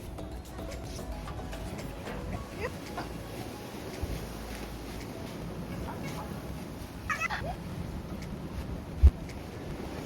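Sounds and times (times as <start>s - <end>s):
wind buffeting microphone: 0.7s - 10.0s.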